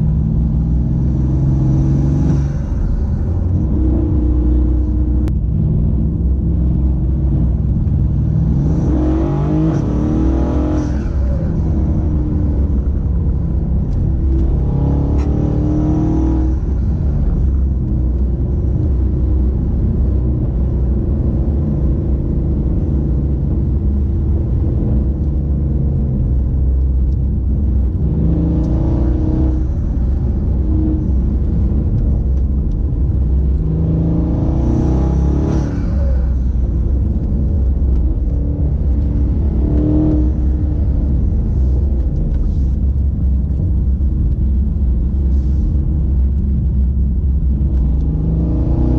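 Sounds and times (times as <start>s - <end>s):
car engine rumbling and accelerating: 0.0s - 48.9s.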